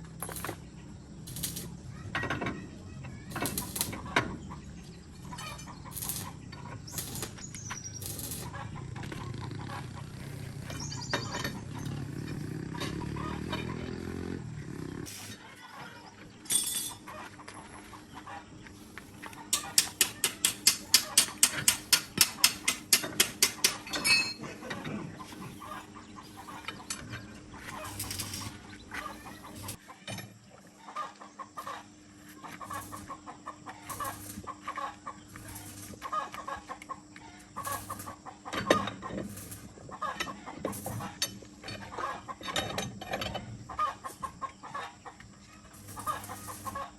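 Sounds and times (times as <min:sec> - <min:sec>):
chickens clucking: 0:02.9 - 0:07.4, 0:08.2 - 0:14.6, 0:15.4 - 0:16.4, 0:17.0 - 0:20.4, 0:24.4 - 0:46.9.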